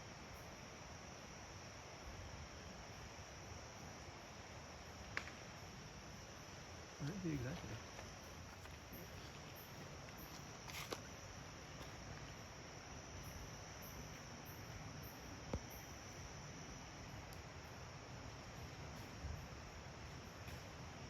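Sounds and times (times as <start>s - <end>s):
insect chorus trilling: 0.0s - 21.0s
pulsing insect chirp: 0.0s - 21.0s.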